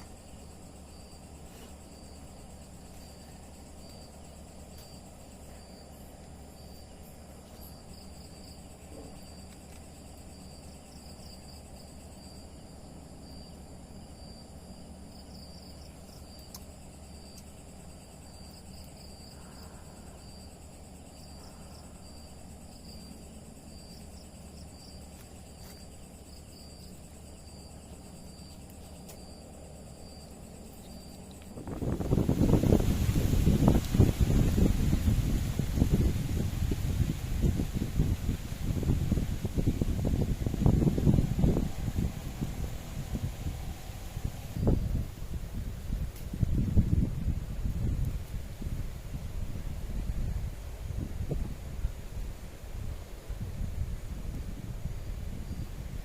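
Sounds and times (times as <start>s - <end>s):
insects trilling: 0.0s - 56.0s
low background hiss: 0.0s - 56.0s.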